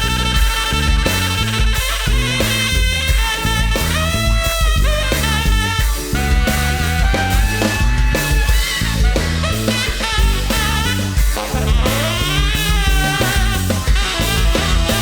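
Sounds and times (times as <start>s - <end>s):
instrumental country-rock band: 0.4s - 15.0s.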